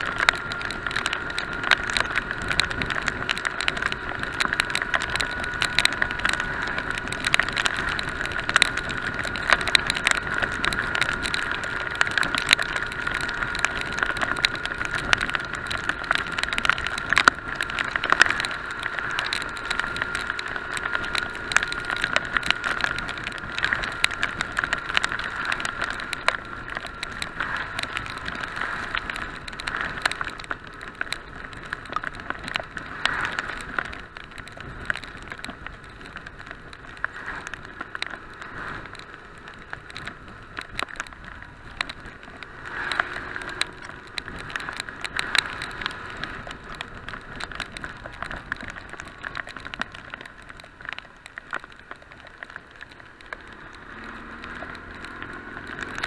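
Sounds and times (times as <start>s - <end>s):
muffled motorcycle ride noise: 0.0s - 56.0s
rain drops ticking on camera: 0.0s - 56.0s.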